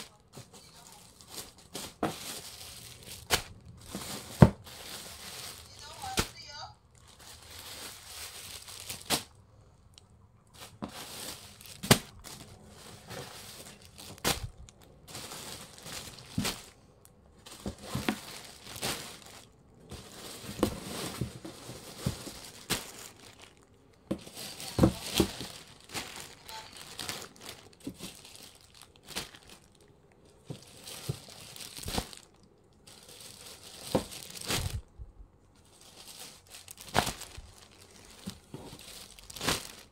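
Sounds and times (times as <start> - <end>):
plastic bags crinkling: 0.0 - 39.9.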